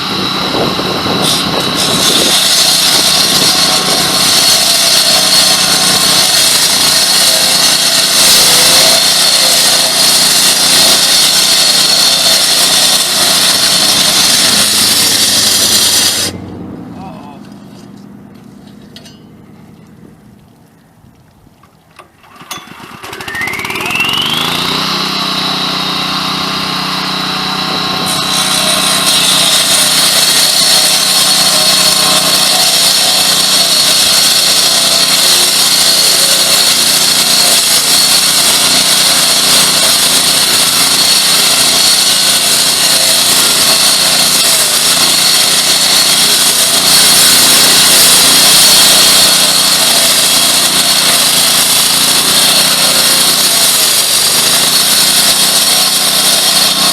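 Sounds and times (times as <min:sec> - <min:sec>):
blade hissing through asphalt: 0:00.0 - 0:16.4, 0:23.1 - 0:56.9
concrete saw whining: 0:00.0 - 0:18.2, 0:22.0 - 0:56.9.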